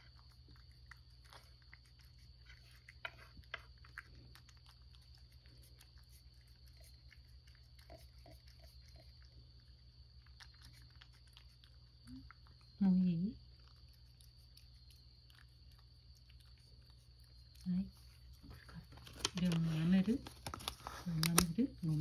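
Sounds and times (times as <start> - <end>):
cat chewing and licking: 0.0 - 22.0.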